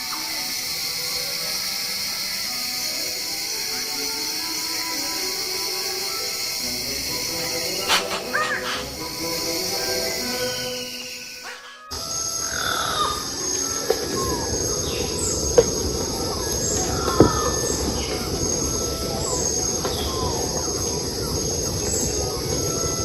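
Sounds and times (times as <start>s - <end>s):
insects droning: 0.0s - 23.0s
bird calling: 3.6s - 23.0s.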